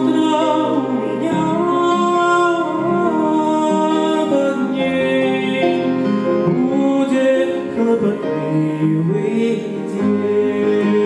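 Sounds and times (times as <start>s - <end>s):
grand piano: 0.0s - 11.0s
man singing into microphone: 0.0s - 11.0s.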